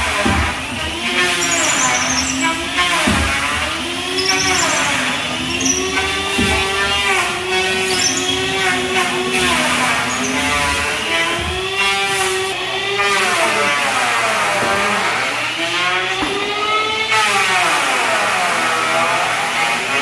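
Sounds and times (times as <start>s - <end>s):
small motor whining: 0.0s - 20.0s.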